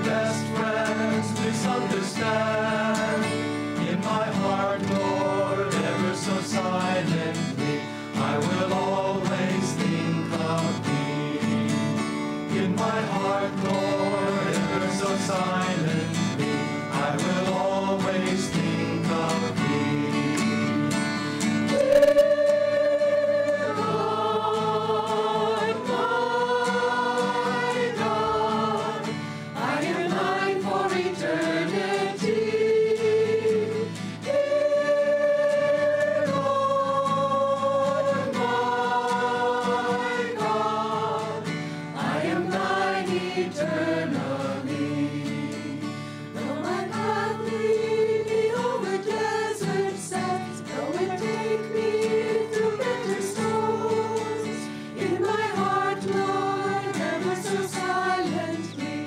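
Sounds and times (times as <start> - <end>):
acoustic guitars: 0.0 - 59.0
mixed choir singing in harmony: 0.0 - 59.0.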